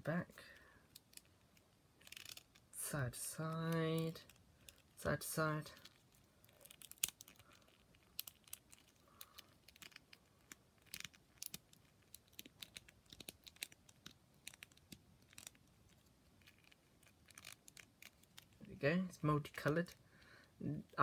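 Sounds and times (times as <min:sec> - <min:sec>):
plastic toy clicking and rubbing: 0:00.5 - 0:21.0.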